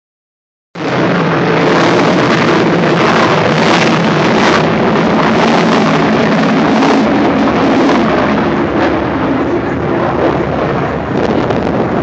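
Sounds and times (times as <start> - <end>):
fighter jet engine roaring: 0.8 - 12.0.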